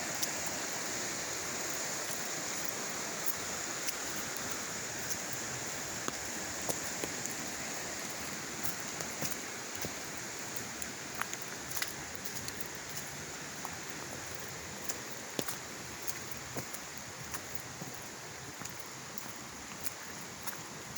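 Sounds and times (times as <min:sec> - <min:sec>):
water rushing: 0:00.0 - 0:20.9
light irregular ticks: 0:01.6 - 0:07.4, 0:08.0 - 0:20.7.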